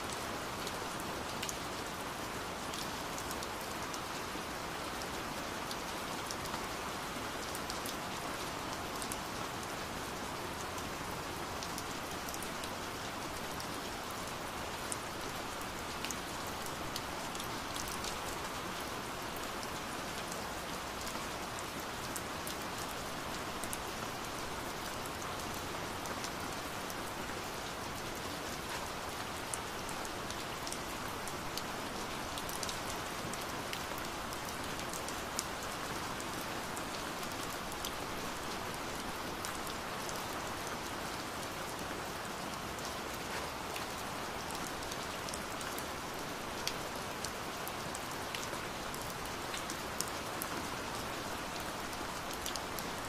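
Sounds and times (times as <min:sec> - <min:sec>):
steady rain hissing: 0:00.0 - 0:53.0.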